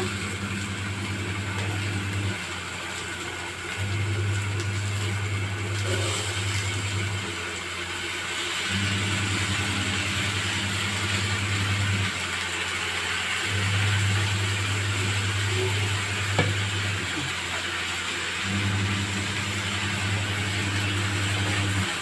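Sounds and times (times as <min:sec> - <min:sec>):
vegetables frying in a wok: 0:00.0 - 0:22.0.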